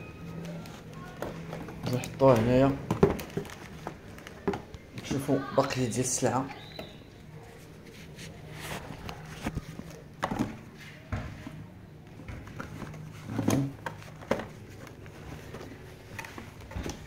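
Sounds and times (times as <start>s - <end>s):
cardboard packaging rustling: 0.0s - 10.6s, 12.4s - 17.0s.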